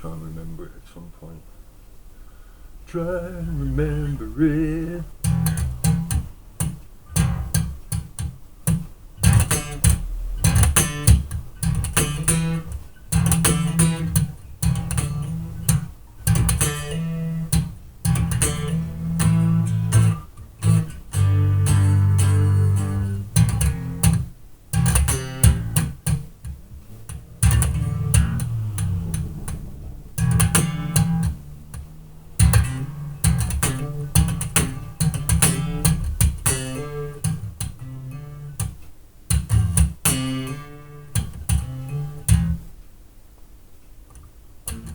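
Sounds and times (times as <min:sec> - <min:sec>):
electric bass plucked notes: 0:03.4 - 0:42.7.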